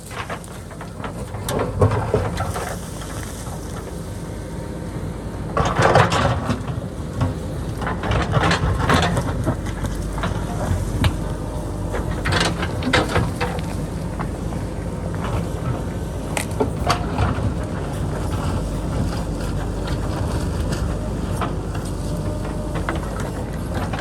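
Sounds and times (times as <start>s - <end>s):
rock and soil scraping and clattering: 0.0s - 4.5s, 5.4s - 24.0s
diesel engine running under load: 0.0s - 24.0s.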